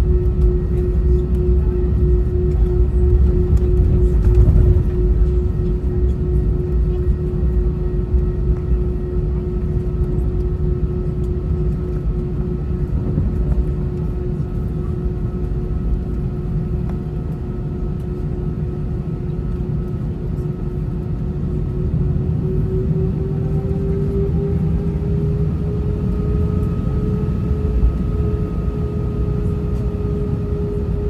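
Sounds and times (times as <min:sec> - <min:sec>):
jet engine cabin rumble: 0:00.0 - 0:31.0.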